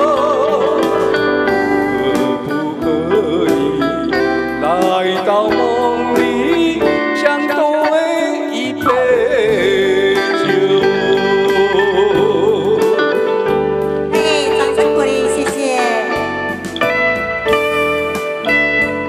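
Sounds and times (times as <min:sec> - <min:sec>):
live band playing slow ballad: 0:00.0 - 0:19.0
wavering lead melody: 0:00.0 - 0:19.0.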